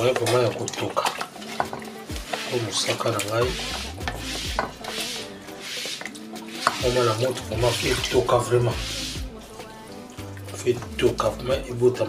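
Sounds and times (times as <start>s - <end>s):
tin can scraping metal pot: 0.0s - 11.4s
background music with singing: 0.0s - 12.0s.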